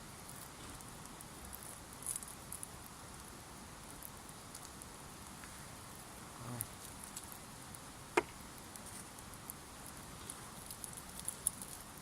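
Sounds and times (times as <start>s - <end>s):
campfire crackling: 0.0s - 12.0s
low background noise: 0.0s - 12.0s.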